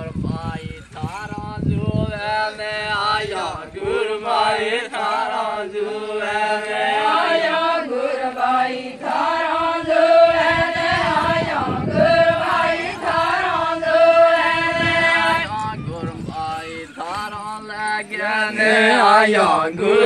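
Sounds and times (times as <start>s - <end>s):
group singing folk song: 0.0s - 20.0s.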